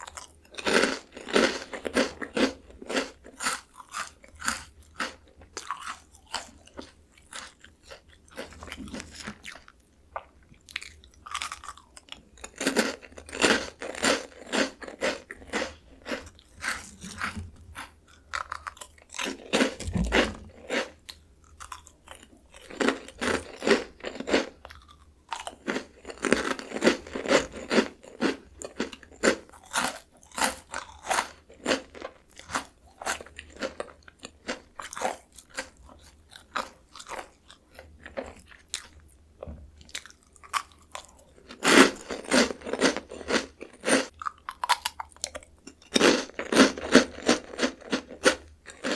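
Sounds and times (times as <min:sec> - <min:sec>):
crunching and chewing crackers: 0:00.0 - 0:48.9.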